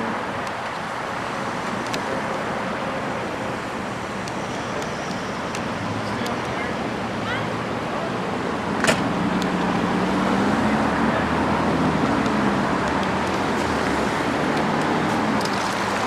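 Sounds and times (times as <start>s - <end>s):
street traffic noise: 0.0s - 16.0s
vehicle engine humming nearby: 0.0s - 16.0s.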